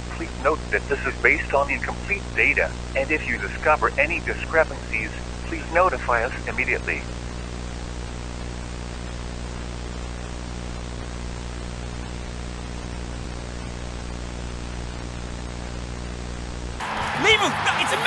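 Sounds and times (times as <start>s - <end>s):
static hiss: 0.0s - 16.6s
low buzzing hum: 0.0s - 16.8s.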